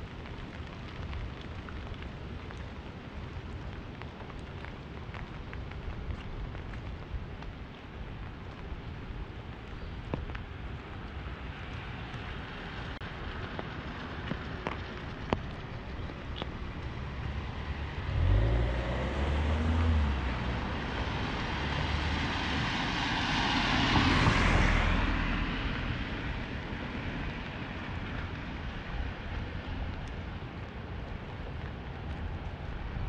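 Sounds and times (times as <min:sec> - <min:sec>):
engine rumble: 0:00.0 - 0:33.0
rain hiss: 0:00.0 - 0:33.0
tyre hiss on wet street: 0:00.0 - 0:33.0.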